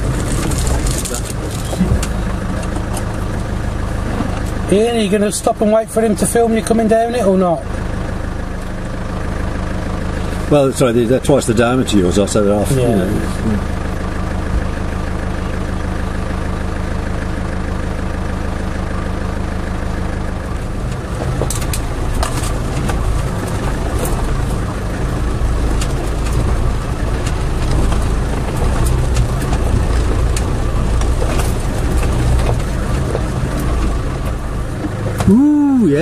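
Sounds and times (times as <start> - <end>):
engine clicks and knocks: 0.0 - 36.0
engine idling: 0.0 - 36.0.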